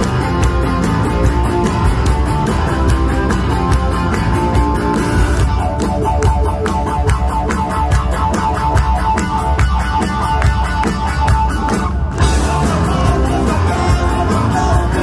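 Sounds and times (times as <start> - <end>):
rock band playing loudly: 0.0 - 15.0.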